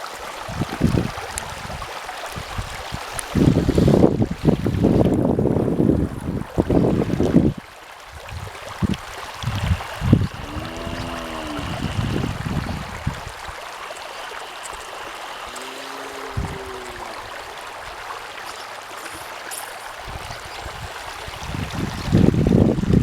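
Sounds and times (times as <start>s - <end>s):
rain: 0.0s - 23.0s
running water: 0.0s - 23.0s.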